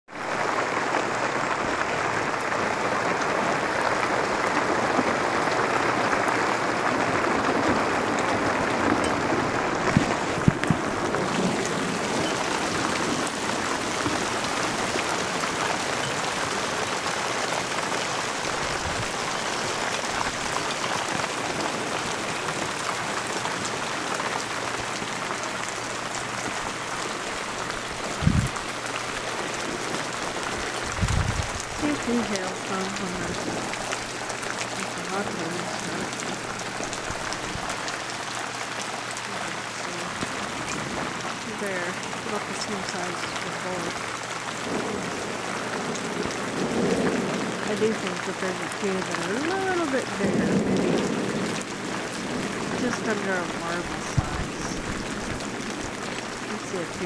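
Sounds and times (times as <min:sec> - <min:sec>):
hail falling on patio: 0:00.1 - 0:57.0.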